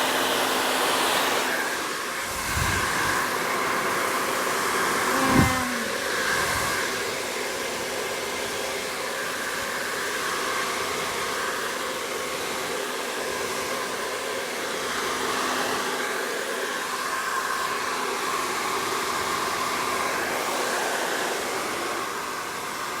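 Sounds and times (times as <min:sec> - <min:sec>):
hair dryer blowing: 0:00.0 - 0:23.0.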